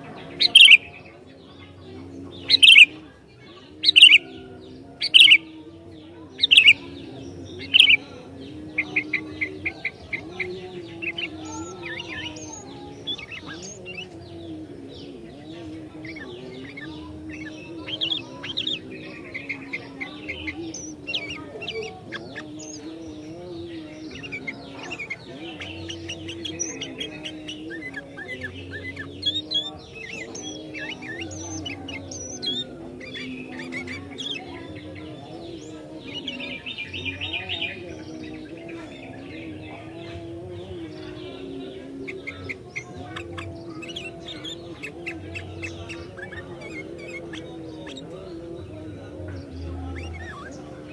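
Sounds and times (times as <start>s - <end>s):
bulbul chirping song: 0.0s - 50.9s.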